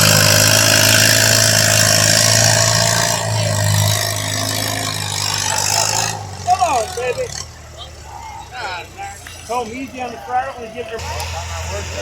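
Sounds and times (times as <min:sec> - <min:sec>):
large vehicle engine running: 0:00.0 - 0:12.0.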